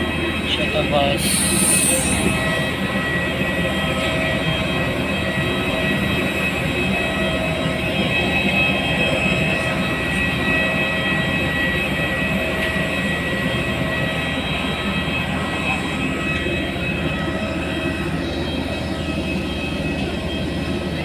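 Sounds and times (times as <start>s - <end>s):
jet turbine whine: 0.0s - 21.0s.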